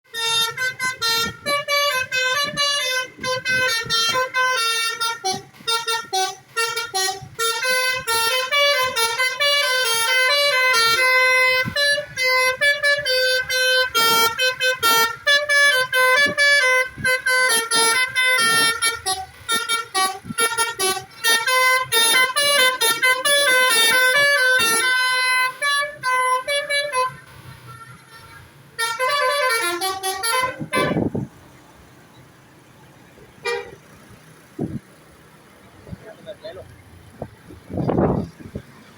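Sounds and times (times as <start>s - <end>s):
melodic bus air horn: 0.1s - 31.3s, 33.4s - 34.0s.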